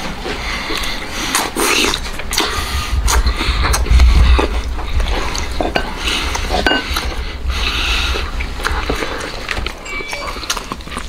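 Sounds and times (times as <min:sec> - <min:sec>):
chewing with lip-smacking: 0:00.6 - 0:07.2, 0:08.1 - 0:11.0.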